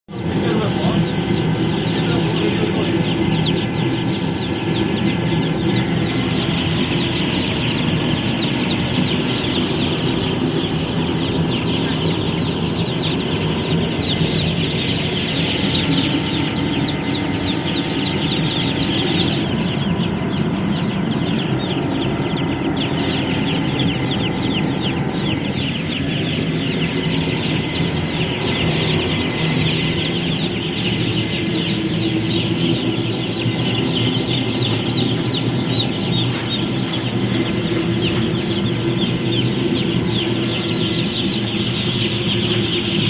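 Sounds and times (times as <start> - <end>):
heater humming: 0.1 - 20.0, 22.6 - 43.0
chicks peeping: 0.1 - 43.0.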